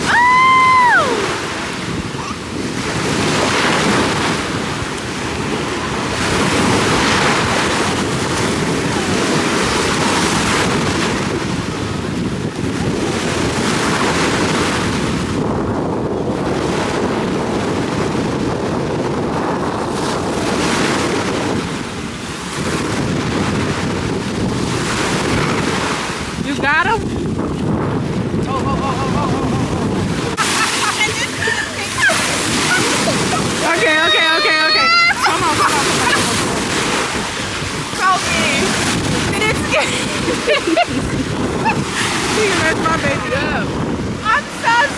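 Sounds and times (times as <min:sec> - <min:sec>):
ocean surf breaking: 0:00.0 - 0:44.9
wind buffeting microphone: 0:00.0 - 0:44.9.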